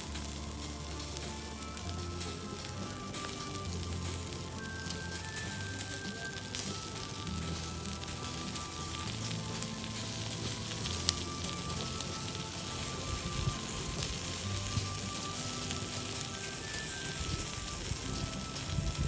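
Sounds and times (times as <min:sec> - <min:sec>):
bark fire crackling: 0:00.0 - 0:19.0
fire popping: 0:00.0 - 0:19.0.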